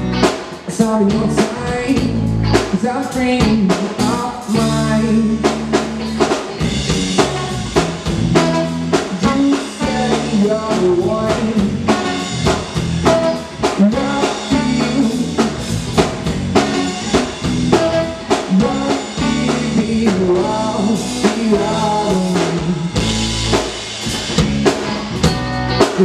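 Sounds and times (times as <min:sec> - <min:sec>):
live band playing: 0:00.0 - 0:26.0
steady drum beat: 0:00.0 - 0:26.0.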